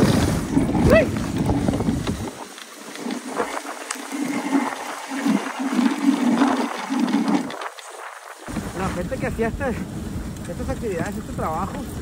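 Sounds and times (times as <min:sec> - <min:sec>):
sled swishing over snow: 0:00.0 - 0:12.0
wind rumbling on microphone: 0:00.0 - 0:12.0.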